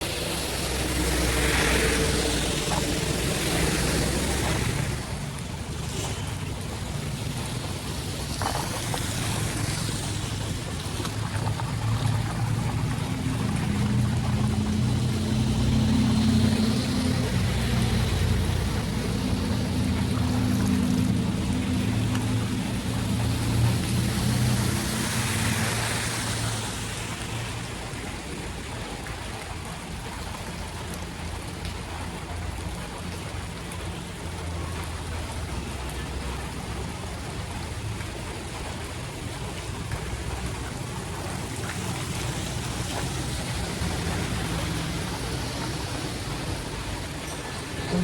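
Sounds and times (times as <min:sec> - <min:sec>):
vehicle engine: 0:00.0 - 0:28.2, 0:33.5 - 0:48.0
heavy rain and running water: 0:00.0 - 0:48.0.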